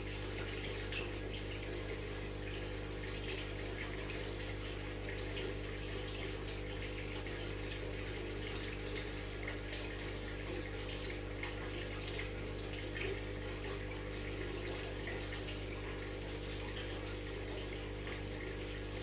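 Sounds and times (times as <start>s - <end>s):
aquarium water bubbling: 0.0s - 19.0s
filter pump hum: 0.0s - 19.0s.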